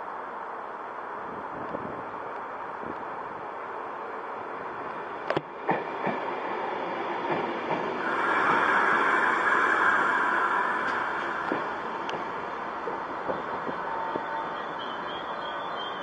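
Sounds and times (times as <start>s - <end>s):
train rolling past platform: 0.1s - 16.0s.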